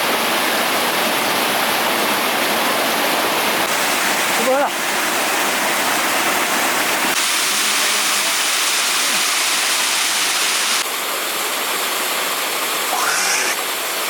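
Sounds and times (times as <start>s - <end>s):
fast-flowing water rushing: 0.0s - 14.0s.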